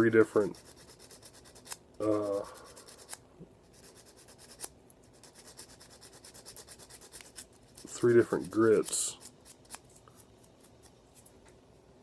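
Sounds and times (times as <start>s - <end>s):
sanding stick scratching plastic: 0.2s - 10.0s.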